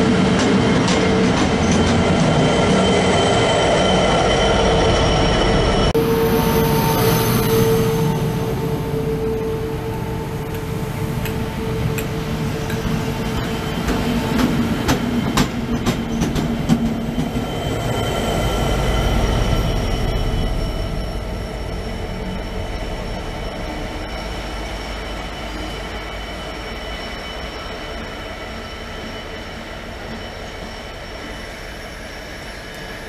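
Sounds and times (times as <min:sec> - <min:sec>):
steady high whine: 0:00.0 - 0:15.2, 0:16.8 - 0:33.0
low train rumble: 0:00.0 - 0:33.0.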